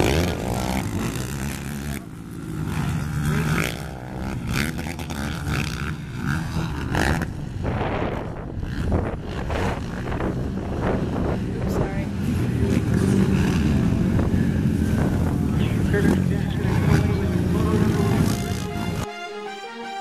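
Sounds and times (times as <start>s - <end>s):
quad engines revving: 0.0s - 19.0s.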